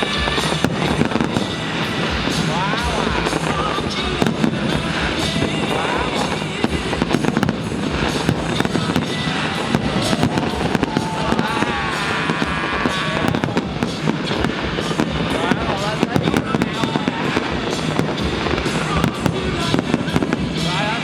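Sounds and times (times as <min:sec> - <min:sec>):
fireworks bursting and crackling: 0:00.0 - 0:21.0
music playing: 0:00.0 - 0:21.0.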